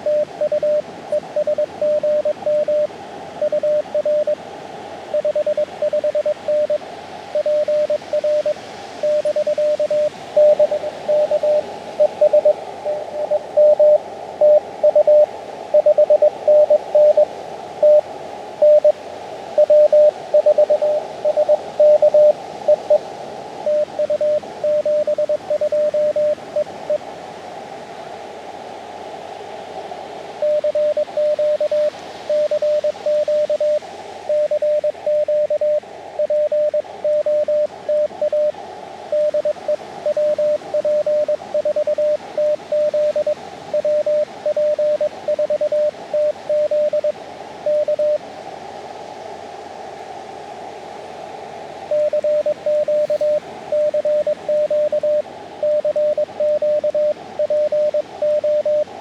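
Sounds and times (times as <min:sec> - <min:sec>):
morse code tone: 0:00.0 - 0:04.4, 0:05.2 - 0:06.8, 0:07.4 - 0:18.0, 0:18.6 - 0:19.0, 0:19.6 - 0:23.0, 0:23.6 - 0:26.9, 0:30.4 - 0:38.5, 0:39.1 - 0:47.1, 0:47.7 - 0:48.2, 0:51.9 - 0:58.9
receiver hiss: 0:00.0 - 0:59.0.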